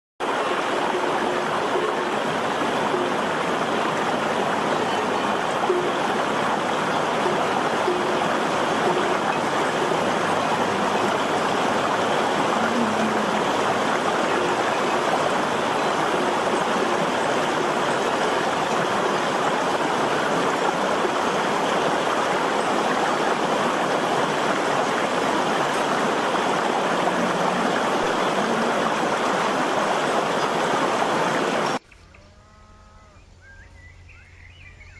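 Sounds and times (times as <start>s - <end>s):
stream rushing over stones: 0.2s - 31.8s.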